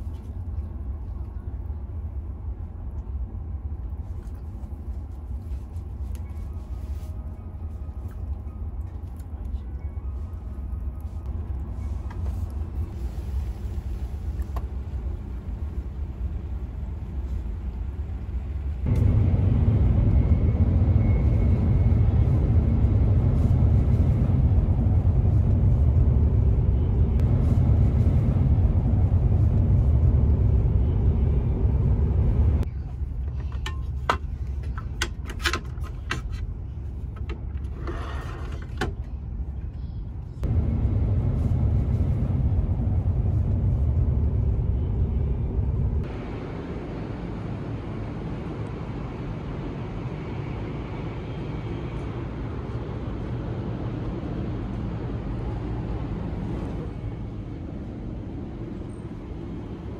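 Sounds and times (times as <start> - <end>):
train cabin rumble: 0.0 - 50.0.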